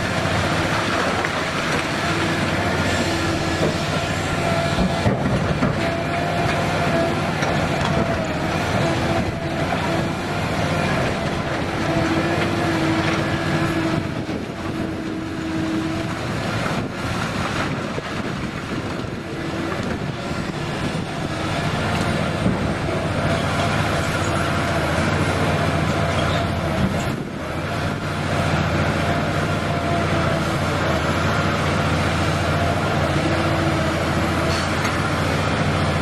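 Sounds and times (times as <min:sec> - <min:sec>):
excavator diesel engine under load: 0:00.0 - 0:36.0.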